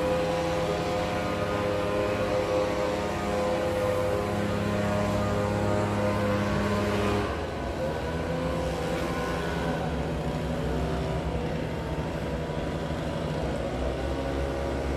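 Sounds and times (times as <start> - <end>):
leaf blowers running: 0.0 - 14.9.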